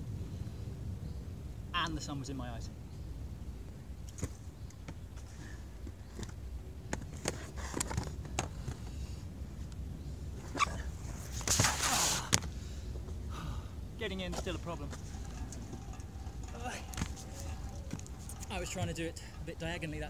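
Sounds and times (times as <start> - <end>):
skate wheels rolling on concrete: 3.7 - 20.0.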